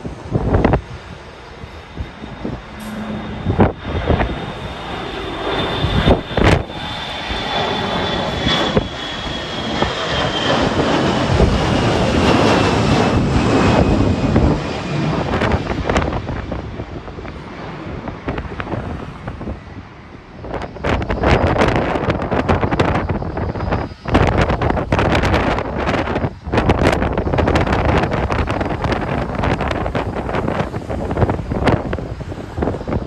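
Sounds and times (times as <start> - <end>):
jet airliner passing: 0.0 - 33.0
wind buffeting microphone: 0.0 - 33.0.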